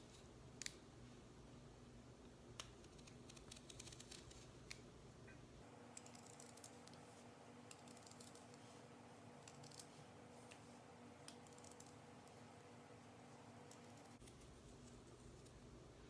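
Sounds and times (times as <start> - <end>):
quiet room hum: 0.0 - 16.0.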